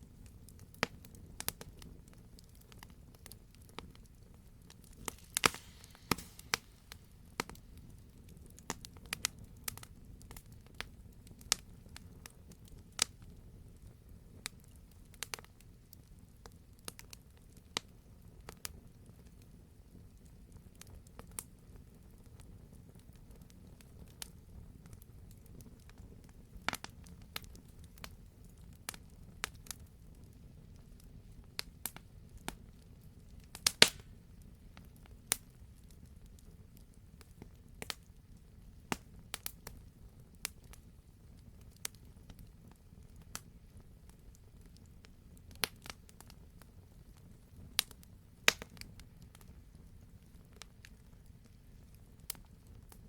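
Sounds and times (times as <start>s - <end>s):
low fire rumble: 0.0s - 53.0s
wood fire popping and snapping: 0.1s - 53.0s.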